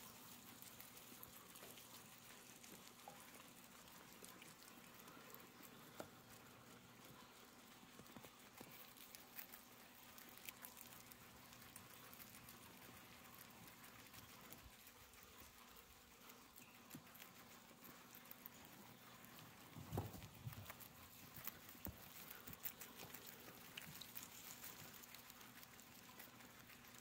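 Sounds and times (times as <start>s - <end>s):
guinea pigs chewing greens: 0.0s - 27.0s.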